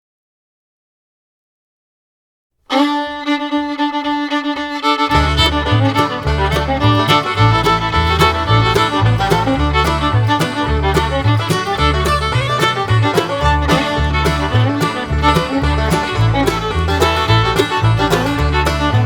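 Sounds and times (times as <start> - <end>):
fiddle tune: 2.7 - 19.0
bass and rhythm: 2.8 - 19.0.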